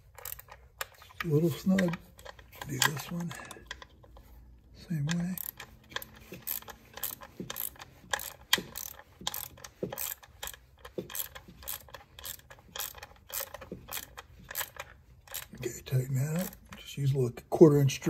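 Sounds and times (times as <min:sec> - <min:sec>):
ratchet clicking: 0:00.0 - 0:04.3, 0:05.0 - 0:16.9.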